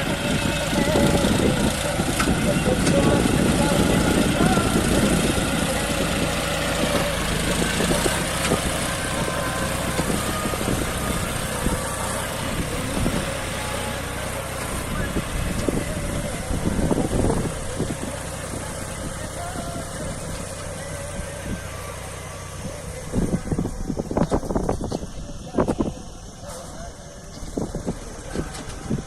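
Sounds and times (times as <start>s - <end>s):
tractor diesel engine running: 0.0s - 29.0s
wind buffeting microphone: 0.0s - 29.0s.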